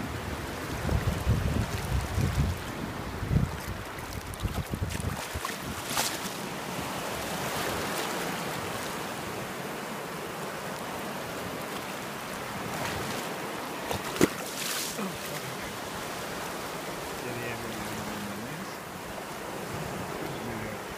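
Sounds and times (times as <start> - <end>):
surf washing over wet sand: 0.0 - 20.9.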